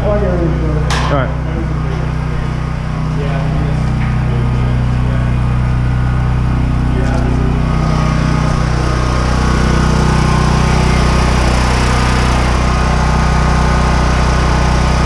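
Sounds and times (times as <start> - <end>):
small engine humming: 0.0 - 15.0.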